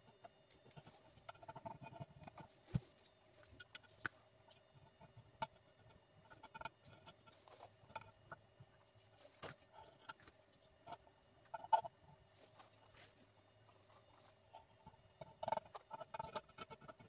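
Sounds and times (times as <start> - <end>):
faint clicks and taps: 0.0 - 17.0
faint steady hum: 0.0 - 17.0.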